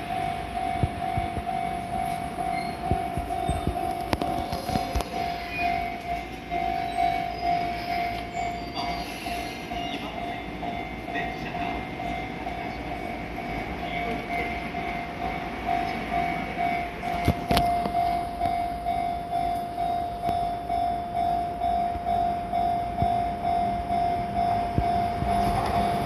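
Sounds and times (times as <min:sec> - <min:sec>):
electric train running: 0:00.0 - 0:26.0
level-crossing alarm dinging: 0:00.0 - 0:26.0.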